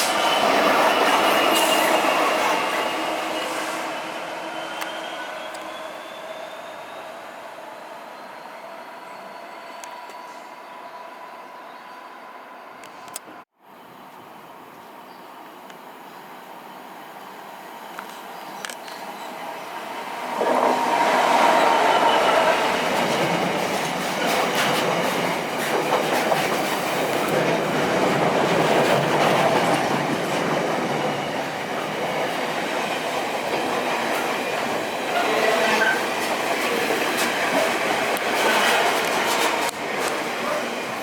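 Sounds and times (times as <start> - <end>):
train passing on rails: 0.0 - 14.7, 15.3 - 41.0.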